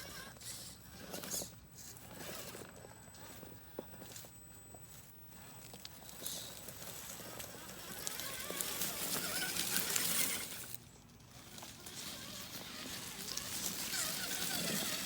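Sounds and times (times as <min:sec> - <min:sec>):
small electric motor whining: 0:00.0 - 0:15.0
tyres crunching on grit: 0:00.0 - 0:15.0.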